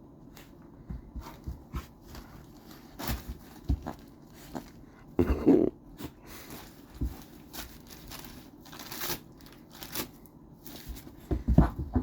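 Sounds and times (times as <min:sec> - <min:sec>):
dog moving among toys: 0:00.2 - 0:04.8, 0:06.3 - 0:12.0.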